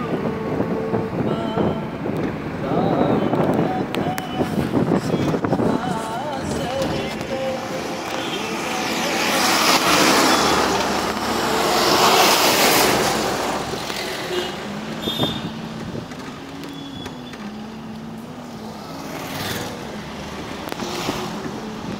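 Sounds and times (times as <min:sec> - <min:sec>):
wind and road noise: 0:00.0 - 0:21.9.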